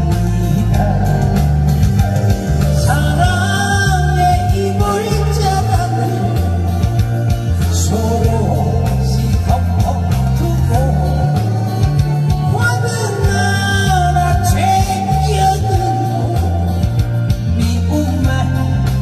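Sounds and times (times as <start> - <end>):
loud amplified bass music: 0.0 - 19.0.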